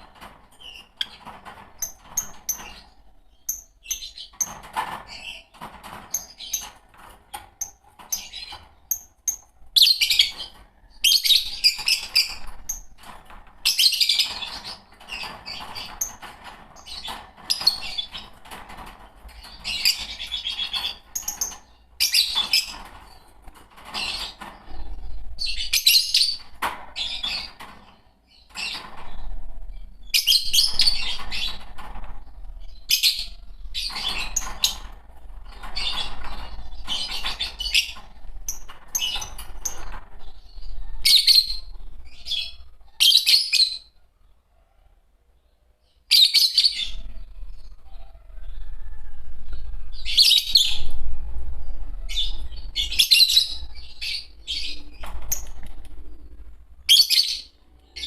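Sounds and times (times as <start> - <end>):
lovebirds chirping: 0.0 - 44.7, 45.4 - 58.0.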